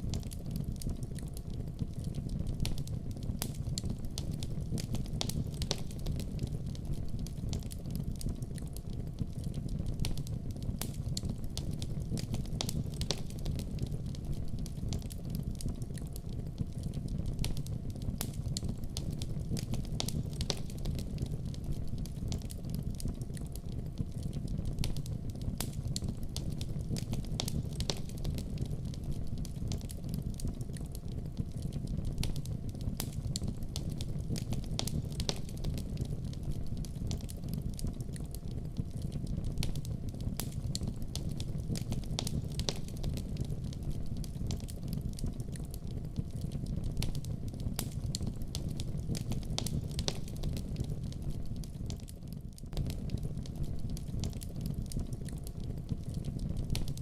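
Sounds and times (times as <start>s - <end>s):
fire crackles and pops: 0.0s - 57.0s
low rumble of flames: 0.0s - 57.0s.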